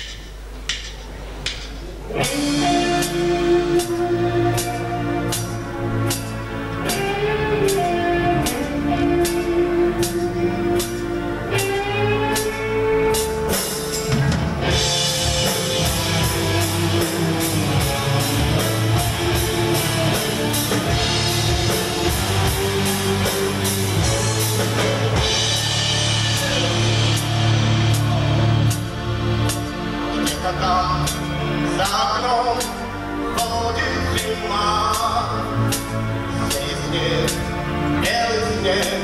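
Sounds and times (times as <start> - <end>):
drum kit and cymbals: 0.0 - 39.0
electric guitar playing: 2.0 - 39.0.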